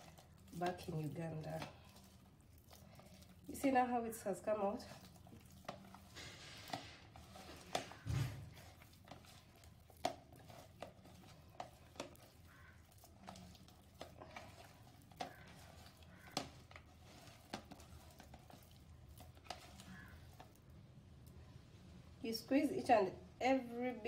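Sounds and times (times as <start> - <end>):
hands kneading sticky mash: 0.0 - 24.0.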